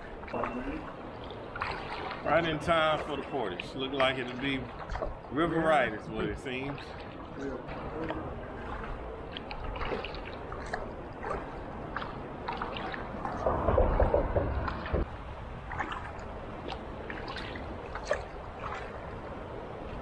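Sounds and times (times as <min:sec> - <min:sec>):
kayak paddle splashing: 0:00.0 - 0:20.0.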